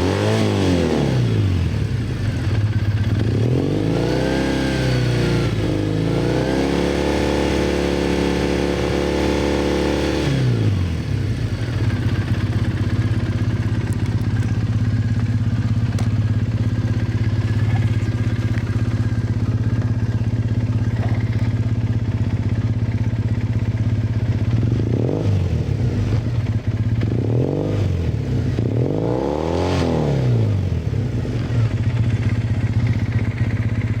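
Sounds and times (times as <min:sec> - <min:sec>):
motorcycle engine idling: 0:00.0 - 0:29.0, 0:30.5 - 0:34.0
motorcycle engine revving: 0:00.0 - 0:34.0.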